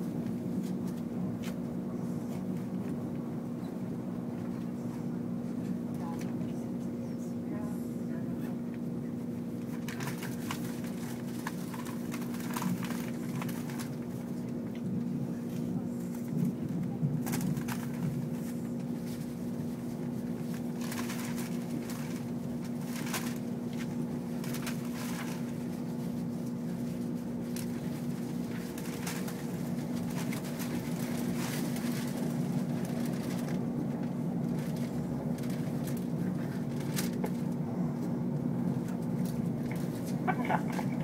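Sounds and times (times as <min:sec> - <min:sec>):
train cabin rumble: 0:00.0 - 0:41.0.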